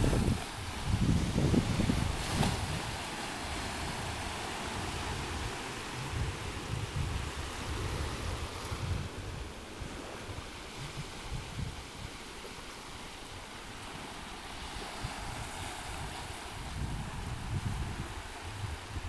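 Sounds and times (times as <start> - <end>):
small waves breaking on shore: 0.0 - 19.0
wind buffeting microphone: 0.0 - 19.0.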